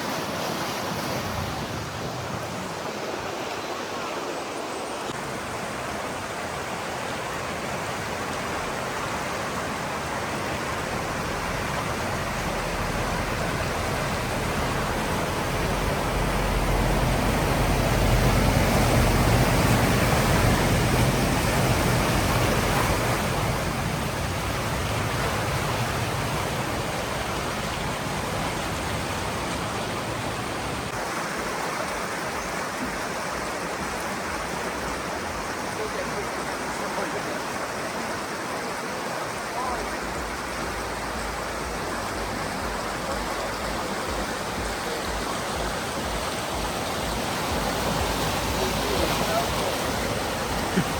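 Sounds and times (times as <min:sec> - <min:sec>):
vehicle ploughing through floodwater: 0:05.2 - 0:32.0, 0:32.8 - 0:50.9.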